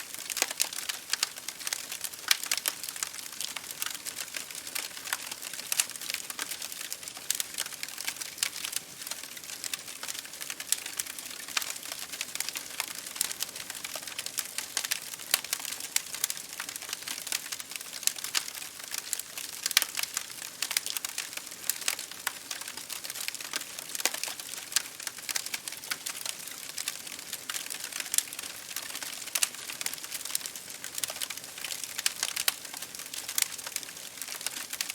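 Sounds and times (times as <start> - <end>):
rain pattering on a window: 0.0 - 34.9
wood fire crackling: 0.0 - 34.9.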